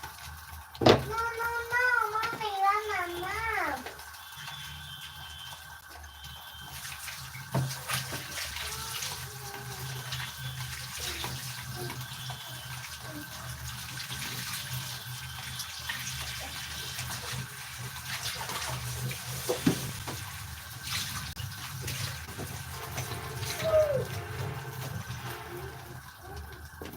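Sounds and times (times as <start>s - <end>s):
fish frying in oil: 0.0s - 26.9s.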